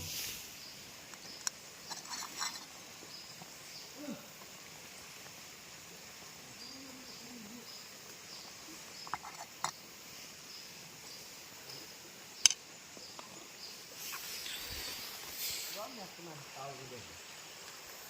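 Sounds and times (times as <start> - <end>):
faint insect chirping: 0.0 - 18.0.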